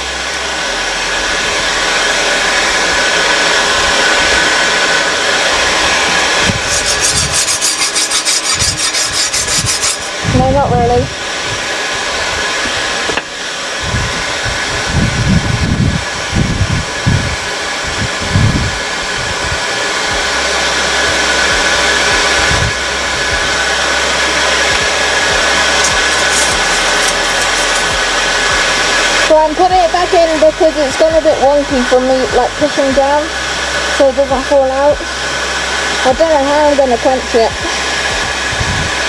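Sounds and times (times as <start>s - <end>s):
air blower hissing: 0.0s - 39.0s.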